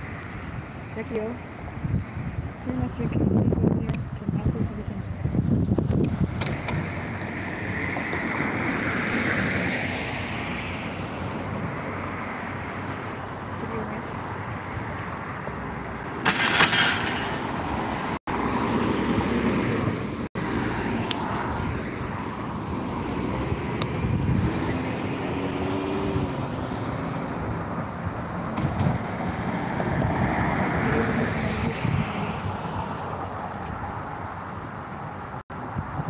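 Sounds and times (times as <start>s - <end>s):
cars driving past: 6.1s - 36.0s.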